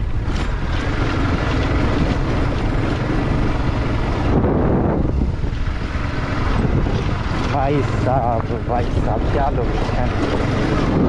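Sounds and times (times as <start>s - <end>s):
motorcycle engine running: 0.0s - 11.0s
tyres on stony dirt track: 0.0s - 11.0s
wind noise on microphone: 0.0s - 11.0s.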